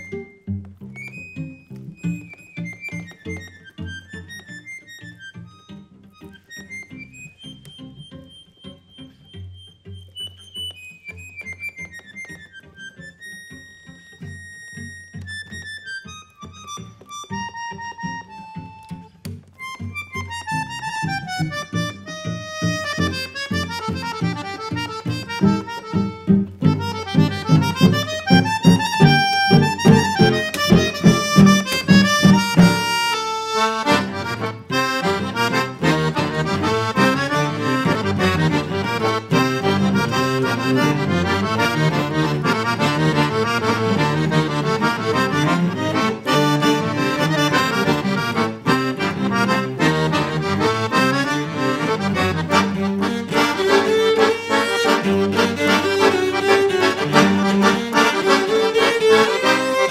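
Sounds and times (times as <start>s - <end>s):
accordion: 0.0s - 59.9s
cello: 0.0s - 59.9s.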